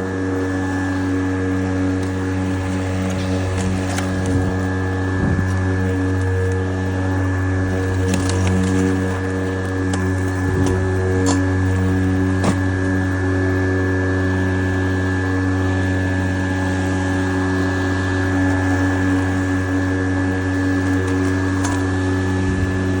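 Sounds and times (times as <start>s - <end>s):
electric lawnmower running: 0.0s - 23.0s.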